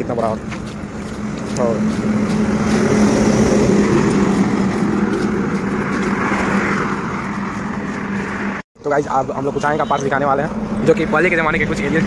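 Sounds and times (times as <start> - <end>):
road traffic noise: 0.0 - 12.0
vehicle engine hum: 0.0 - 12.0.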